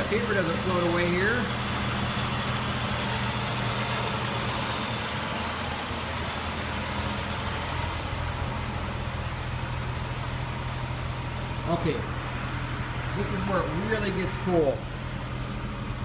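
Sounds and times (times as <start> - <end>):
car engine fast idling: 0.0 - 16.0.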